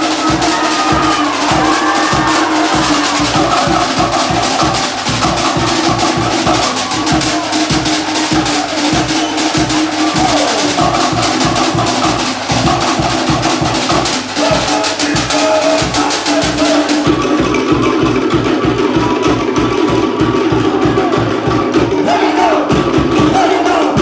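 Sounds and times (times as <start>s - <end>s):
fast low drum beat: 0.0s - 24.0s.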